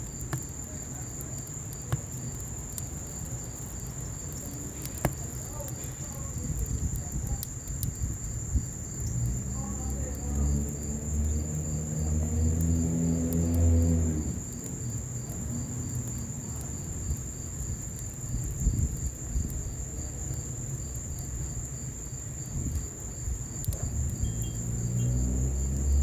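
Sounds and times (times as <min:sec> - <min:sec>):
cricket chirping in pulses: 0:00.0 - 0:26.0
crickets trilling: 0:00.0 - 0:26.0
fire rumbling and crackling: 0:00.0 - 0:26.0.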